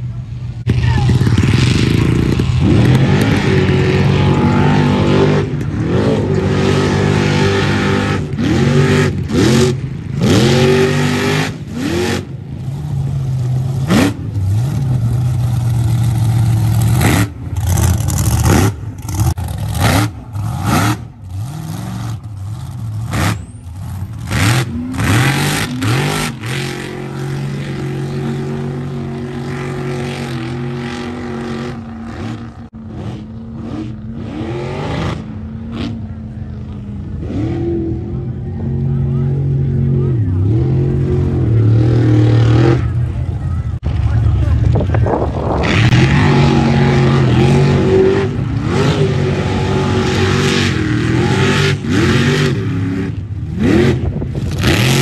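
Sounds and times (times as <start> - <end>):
truck engine revving: 0.6 - 55.0.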